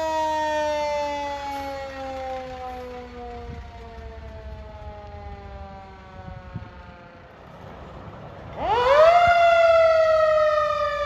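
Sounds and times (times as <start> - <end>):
fire truck siren winding down: 0.0 - 11.0
low engine or road noise: 0.0 - 11.0.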